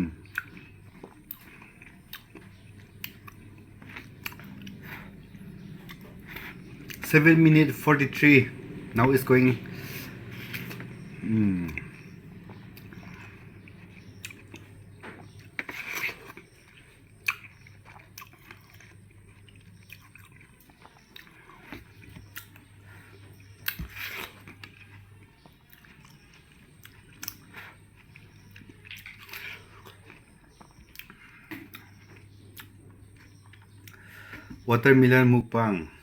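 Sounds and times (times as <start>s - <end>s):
biting and chewing watermelon: 0.0s - 35.4s
low steady hum: 0.0s - 36.0s.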